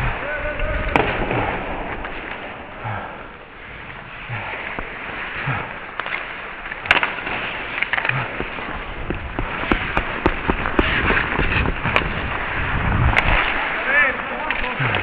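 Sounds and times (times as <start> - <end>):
skate blades scraping on ice: 0.0 - 15.0
hockey sticks and puck clacking: 0.7 - 3.4, 4.4 - 15.0.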